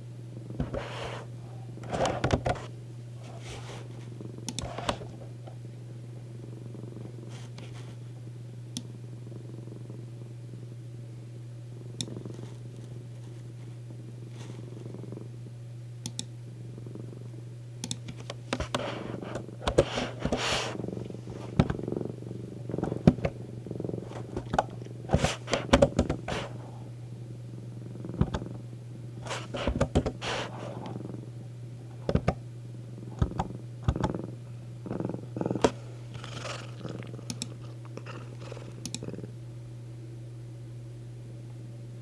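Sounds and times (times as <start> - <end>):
cat purring: 0.3 - 8.2, 8.8 - 10.8, 11.7 - 15.6, 16.6 - 39.4.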